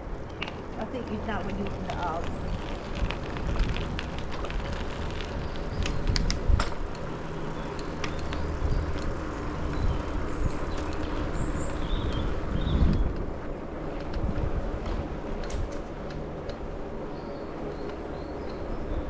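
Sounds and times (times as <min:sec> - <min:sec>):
wind and road rumble: 0:00.0 - 0:19.0.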